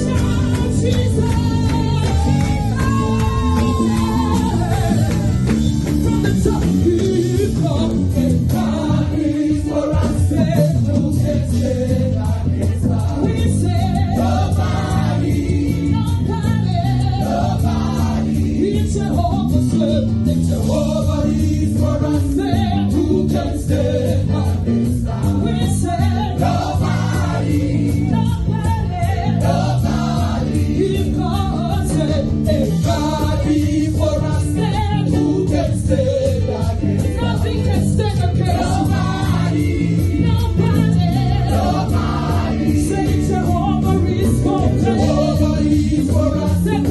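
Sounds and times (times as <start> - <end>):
band accompaniment: 0.0 - 46.9
choir singing praise song: 0.0 - 46.9.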